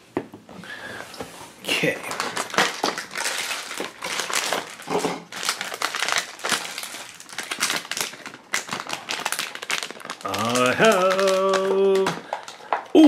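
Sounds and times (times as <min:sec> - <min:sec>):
foil bag crinkling: 0:00.6 - 0:13.0.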